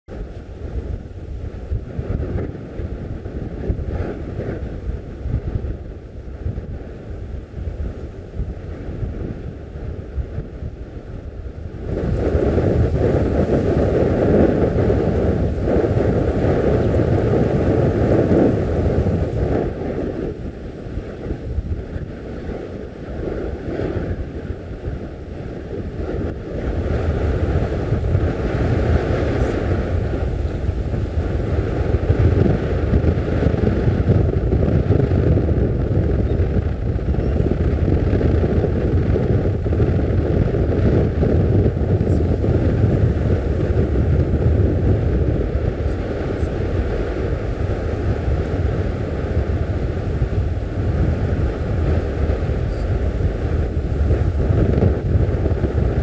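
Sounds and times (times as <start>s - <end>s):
rough sea washing: 0.1s - 56.0s
wind buffeting microphone: 0.1s - 56.0s.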